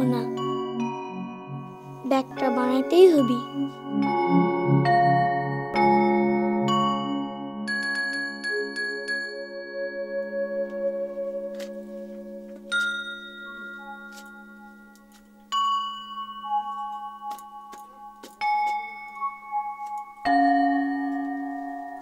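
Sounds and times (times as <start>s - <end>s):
ringing bell-like chords: 0.0s - 22.0s.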